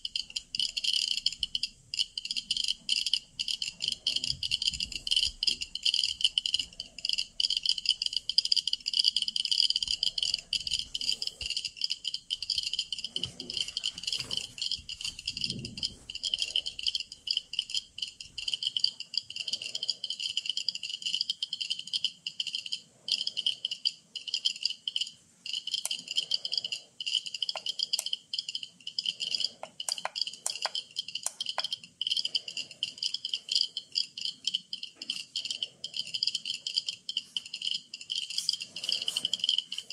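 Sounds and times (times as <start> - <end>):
geiger counters clicking: 0.0 - 39.9.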